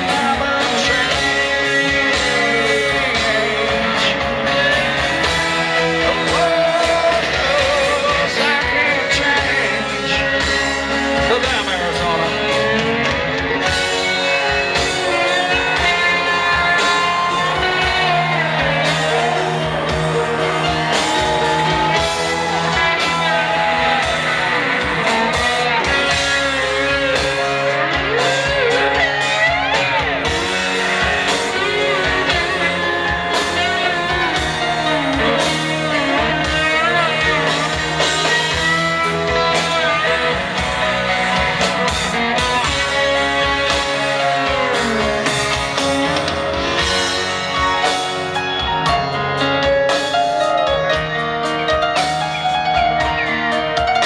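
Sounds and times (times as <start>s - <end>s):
person singing: 0.0s - 50.8s
bending electric guitar lines: 0.0s - 54.0s
rock band playing: 0.0s - 54.0s.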